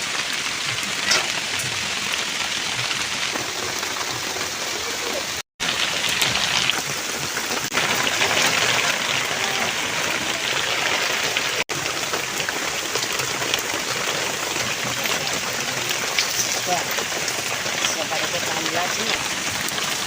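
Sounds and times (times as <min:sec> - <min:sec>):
hot oil sizzling in a pan: 0:00.0 - 0:20.0.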